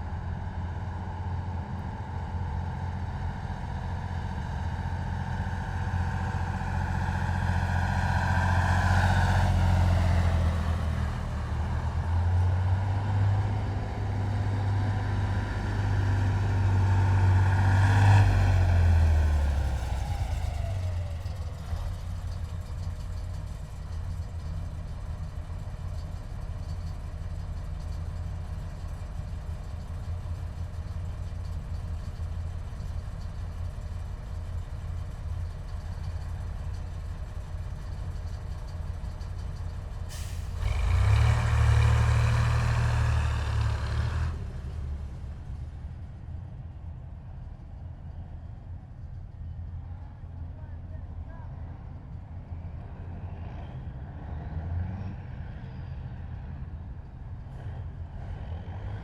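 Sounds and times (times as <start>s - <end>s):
heavy vehicles driving past: 0.0s - 59.0s
low engine rumble: 0.0s - 59.0s.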